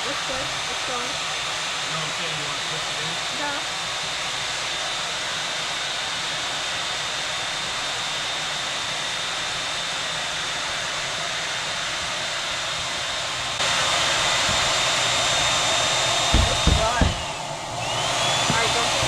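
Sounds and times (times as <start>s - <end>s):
electric air pump running: 0.0s - 19.0s.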